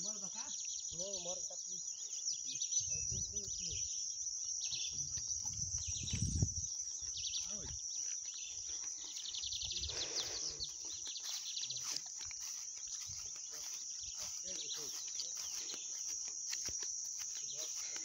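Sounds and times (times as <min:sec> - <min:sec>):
birds chirping in trills: 0:00.0 - 0:18.0
insects buzzing: 0:00.0 - 0:18.0.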